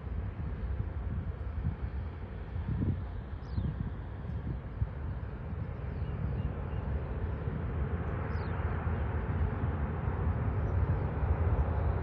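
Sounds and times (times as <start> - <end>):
distant jet engine roar: 0.0 - 12.0.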